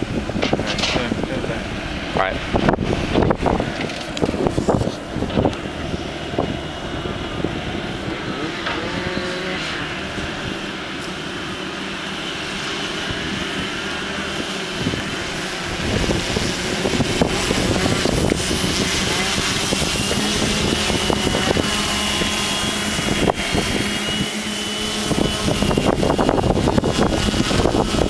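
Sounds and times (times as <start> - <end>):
drone propeller motor whining: 0.0 - 28.0
wind buffeting microphone: 0.0 - 28.0.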